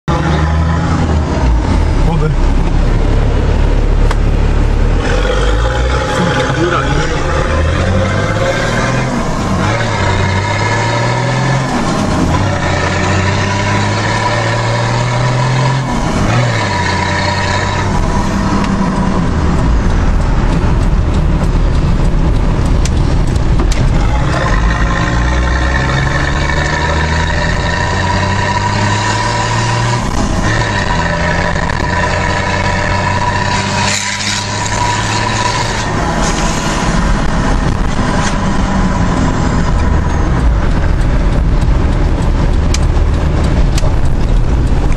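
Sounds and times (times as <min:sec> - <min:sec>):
loud engine revving under load: 0:00.0 - 0:44.9.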